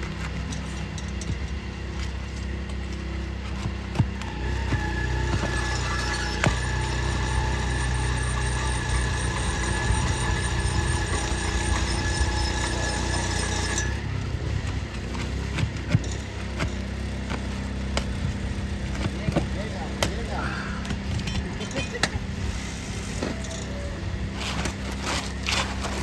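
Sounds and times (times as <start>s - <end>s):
motor running: 0.0s - 26.0s.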